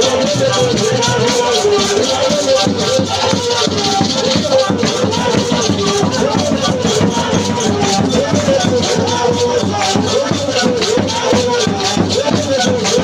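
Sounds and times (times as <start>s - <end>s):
person singing: 0.0s - 13.0s
shaker rattle: 0.0s - 13.0s
steady beat: 0.0s - 13.0s.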